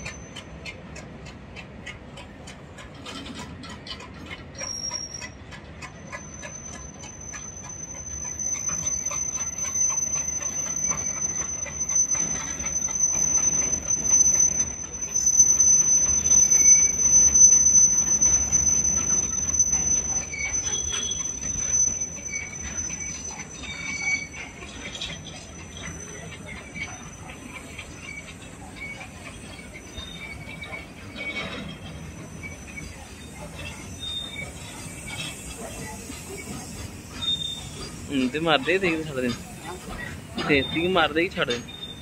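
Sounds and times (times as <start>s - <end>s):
freight train rolling past: 0.0s - 42.0s
wheel squeals on rails: 0.0s - 42.0s
wheels clicking over rail joints: 0.0s - 42.0s.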